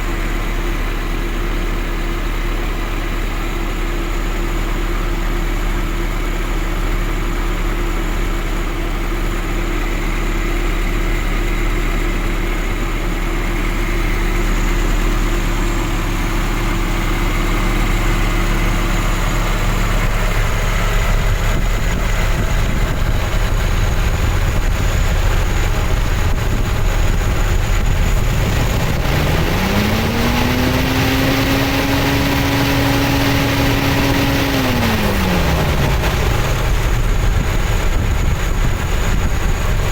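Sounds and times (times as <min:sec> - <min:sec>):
truck engine running and revving: 0:00.0 - 0:39.9.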